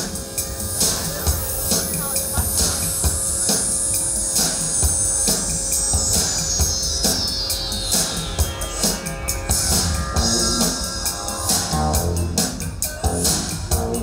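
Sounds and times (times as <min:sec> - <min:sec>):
music with steady drum beat: 0:00.0 - 0:14.0.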